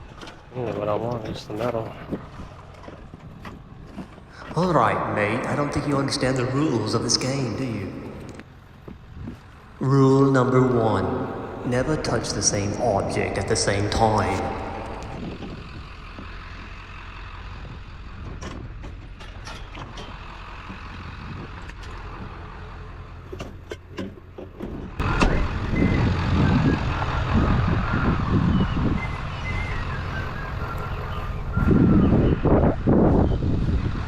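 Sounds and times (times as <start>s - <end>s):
motor vehicle running: 0.0s - 34.0s.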